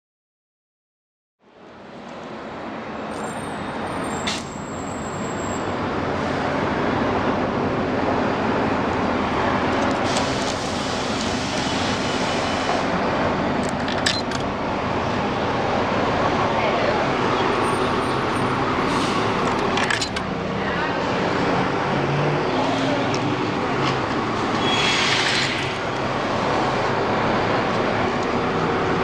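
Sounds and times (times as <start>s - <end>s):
road traffic noise: 1.4s - 29.0s.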